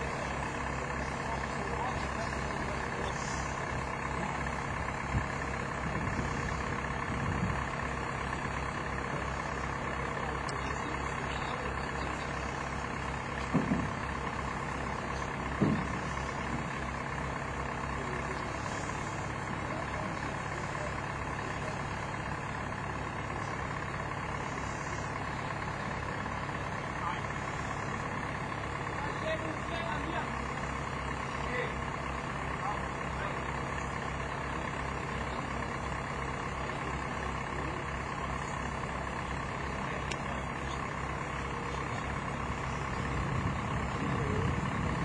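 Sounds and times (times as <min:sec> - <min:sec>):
heavy engine idling: 0:00.0 - 0:45.0.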